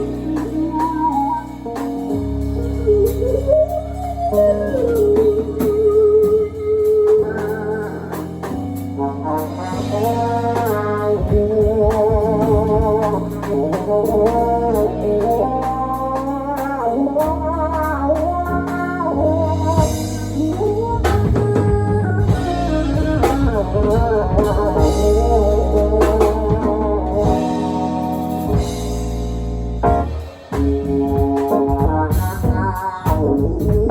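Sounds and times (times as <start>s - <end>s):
band playing jazz-funk: 0.0s - 33.9s.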